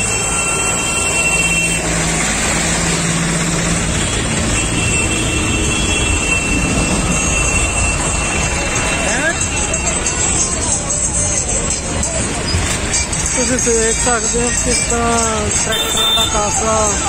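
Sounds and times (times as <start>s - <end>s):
road noise: 0.0s - 17.0s
tractor engines droning: 0.0s - 17.0s.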